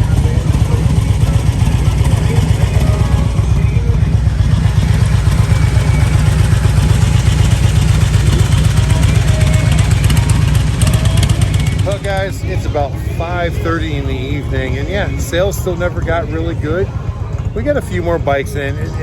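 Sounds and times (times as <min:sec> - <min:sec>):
faint voices: 0:00.0 - 0:19.0
motorcycle engine running: 0:00.0 - 0:19.0.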